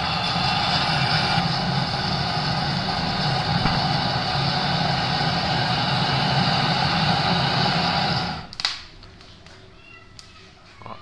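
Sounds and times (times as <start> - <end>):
gas torch roaring: 0.0 - 9.0.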